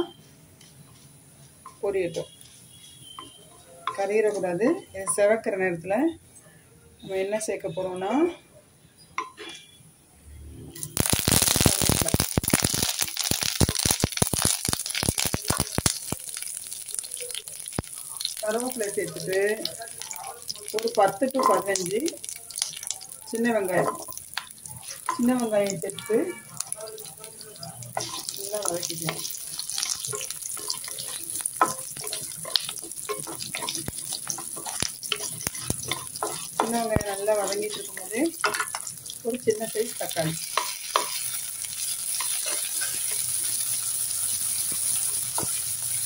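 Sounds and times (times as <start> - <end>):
leaves crackling in hot oil: 1.7 - 4.7, 10.8 - 46.0.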